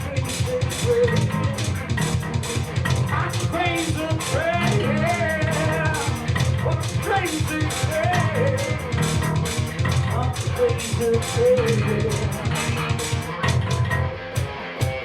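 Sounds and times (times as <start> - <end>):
bass guitar: 0.0 - 15.0
drum kit: 0.0 - 15.0
electric guitar lead: 0.0 - 15.0.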